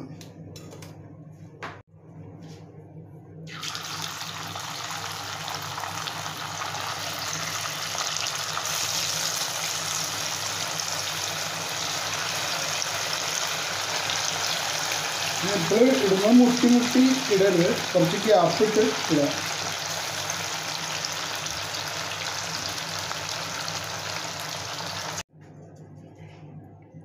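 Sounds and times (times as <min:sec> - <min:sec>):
chicken deep-frying sizzle: 0:03.5 - 0:25.2.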